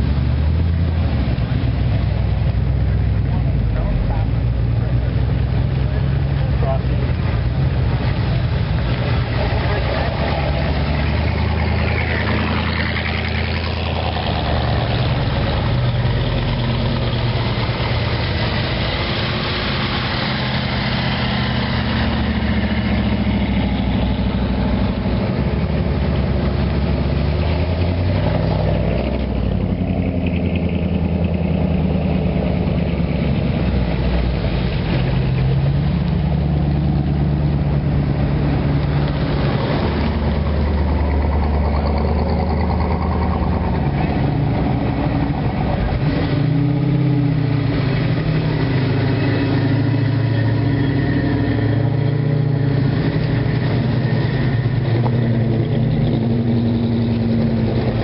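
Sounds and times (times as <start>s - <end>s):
car engines idling: 0.0s - 58.0s.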